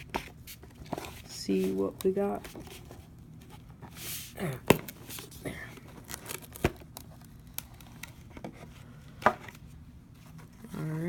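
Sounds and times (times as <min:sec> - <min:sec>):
cardboard packaging rustling: 0:00.0 - 0:10.8.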